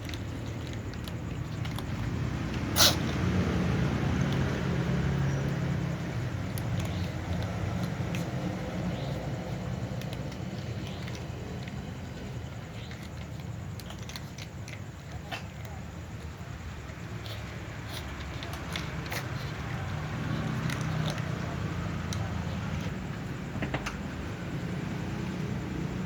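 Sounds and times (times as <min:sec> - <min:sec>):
cats crunching food: 0:00.0 - 0:26.0.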